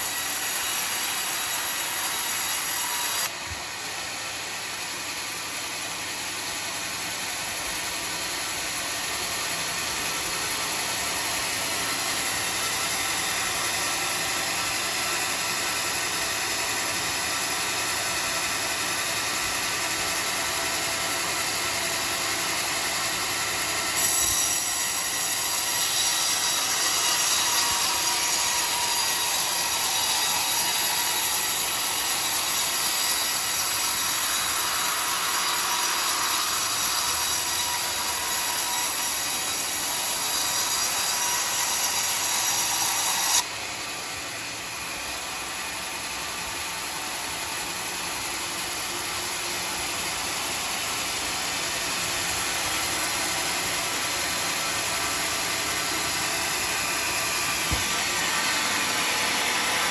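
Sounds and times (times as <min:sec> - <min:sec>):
band sawmill cutting log: 0:00.0 - 0:59.9.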